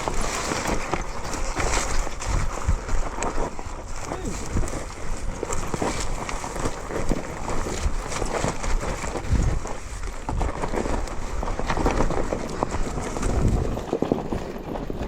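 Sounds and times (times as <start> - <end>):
footsteps crunching on rocky ground: 0.0 - 15.0.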